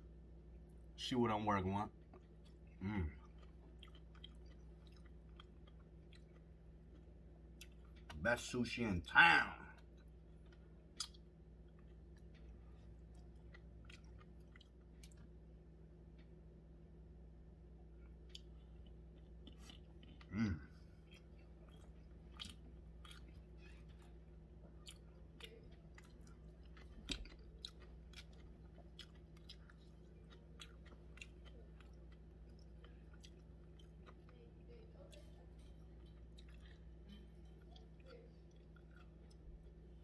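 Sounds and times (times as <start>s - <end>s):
faint steady hum: 0.0s - 40.0s
person chewing: 2.0s - 8.2s, 9.3s - 15.5s, 17.9s - 40.0s.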